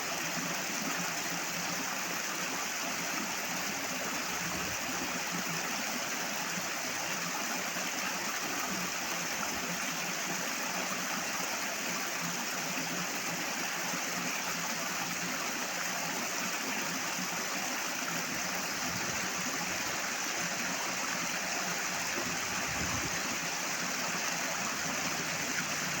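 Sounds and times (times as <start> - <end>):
water rushing: 1.4 - 26.0.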